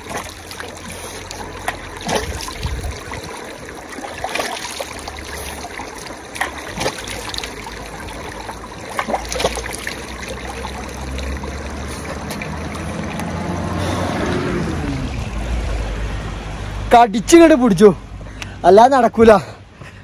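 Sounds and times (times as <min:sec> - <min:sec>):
stream trickling over stones: 0:00.0 - 0:17.9
water splashes: 0:00.0 - 0:17.9.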